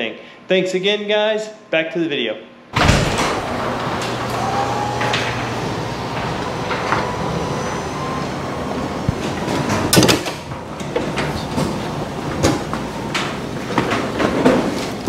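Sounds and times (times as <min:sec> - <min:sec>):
garage door rolling up: 0:02.8 - 0:15.0.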